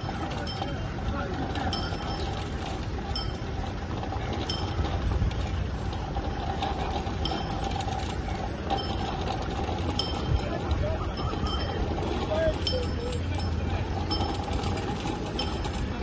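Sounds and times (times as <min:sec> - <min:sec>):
low street rumble: 0:00.0 - 0:16.0.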